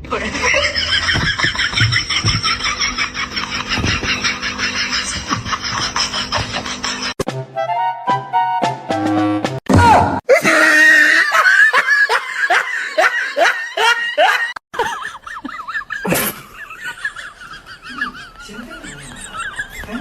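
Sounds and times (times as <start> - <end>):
hearty laughter: 0.0 - 7.2, 10.4 - 20.0.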